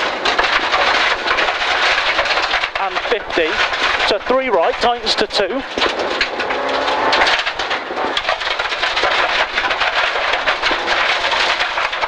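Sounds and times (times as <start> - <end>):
gravel pinging against car underside: 0.0 - 12.0.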